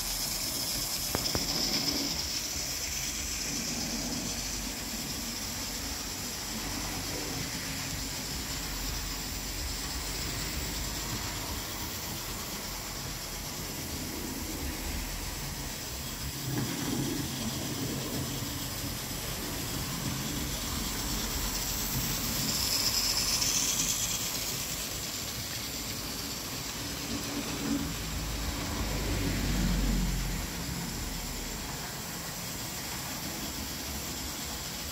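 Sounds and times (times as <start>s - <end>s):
model train whirring on rails: 0.0s - 34.9s.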